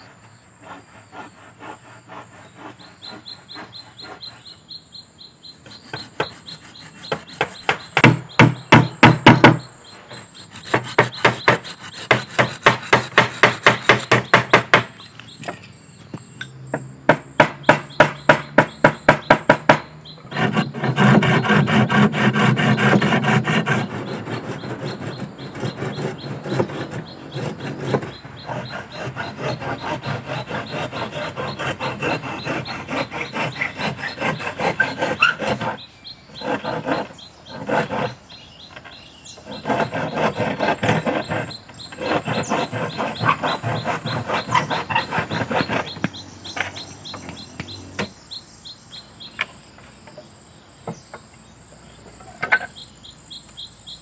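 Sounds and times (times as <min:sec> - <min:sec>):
insects chirping: 0:00.0 - 0:54.0
hand saw cutting wood: 0:00.6 - 0:04.5, 0:05.6 - 0:15.0, 0:17.1 - 0:48.1.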